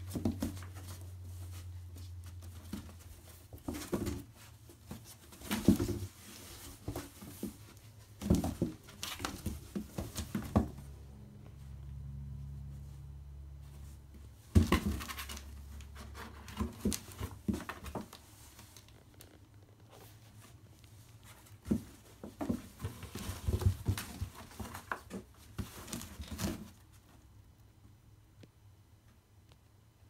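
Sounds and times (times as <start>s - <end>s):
paws scrabbling on cardboard: 0.0s - 10.9s, 13.8s - 27.1s.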